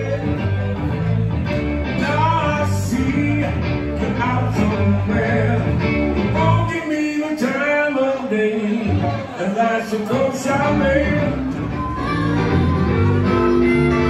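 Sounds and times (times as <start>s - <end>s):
bass guitar: 0.0s - 7.7s, 10.1s - 14.0s
electric guitar: 0.0s - 8.2s, 10.0s - 14.0s
man singing: 0.0s - 13.3s.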